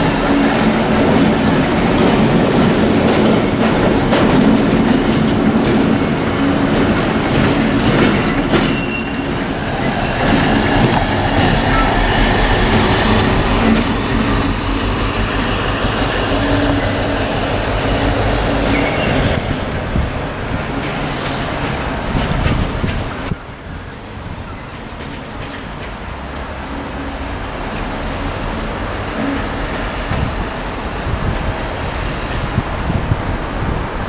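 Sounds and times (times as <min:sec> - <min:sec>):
diesel locomotive engines: 0:00.0 - 0:34.0
wheels clicking on track: 0:00.0 - 0:34.0.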